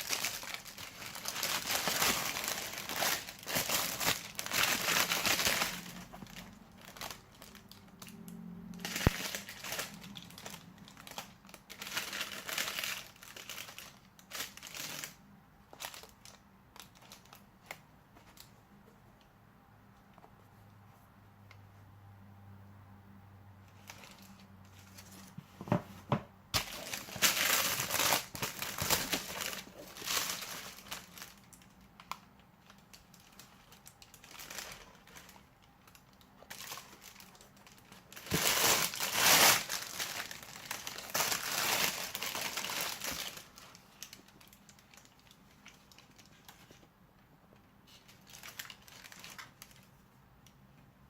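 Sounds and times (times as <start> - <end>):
packaging crinkling and rustling: 0.0 - 18.6, 23.8 - 25.8, 26.6 - 46.9, 47.8 - 50.0.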